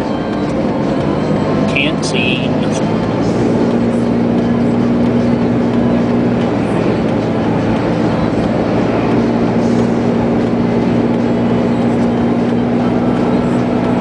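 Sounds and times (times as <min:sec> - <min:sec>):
road and engine noise in car: 0:00.0 - 0:14.0.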